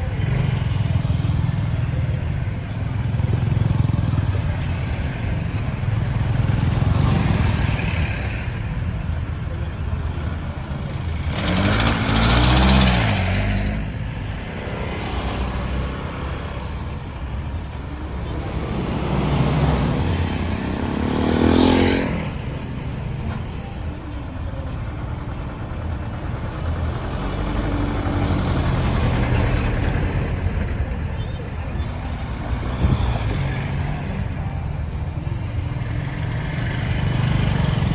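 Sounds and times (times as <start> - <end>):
road traffic hum: 0.0 - 37.9
vehicles passing close by: 0.0 - 37.9.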